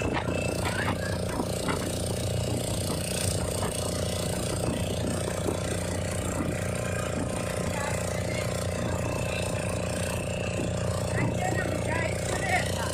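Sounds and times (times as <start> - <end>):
boat engine droning: 0.0 - 12.9.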